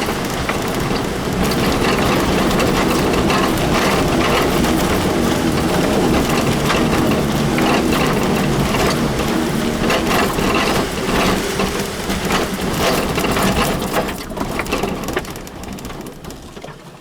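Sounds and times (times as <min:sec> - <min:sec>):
vehicle engine hum: 0:00.0 - 0:16.4
rattling and knocking: 0:00.0 - 0:16.8.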